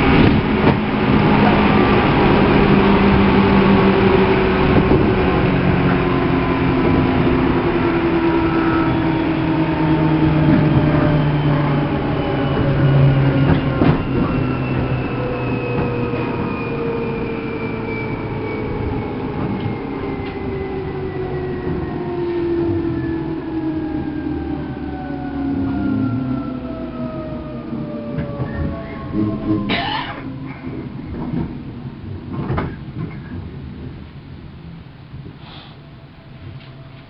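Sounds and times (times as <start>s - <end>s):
train motor whine: 0.0s - 31.7s
wheels rumbling on rail: 0.0s - 37.0s.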